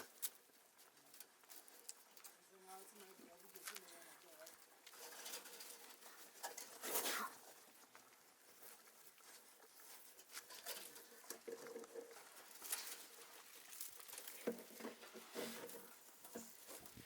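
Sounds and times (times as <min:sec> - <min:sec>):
goats eating feed: 0:00.0 - 0:17.0.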